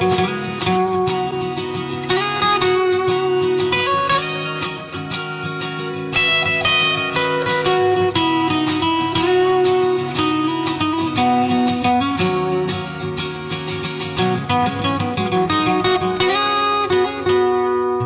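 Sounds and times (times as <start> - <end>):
plucked string instrumental music: 0.0 - 18.0.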